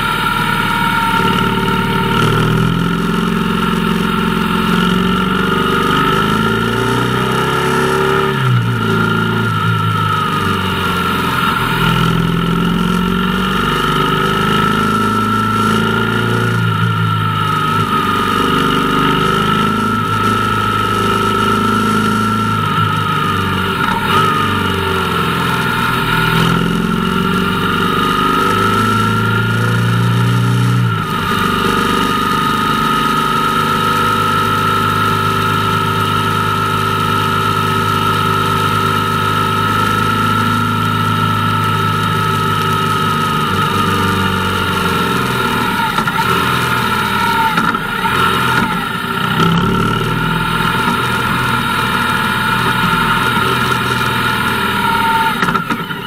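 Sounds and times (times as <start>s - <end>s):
motorcycle engine changing gears: 0.0s - 56.0s.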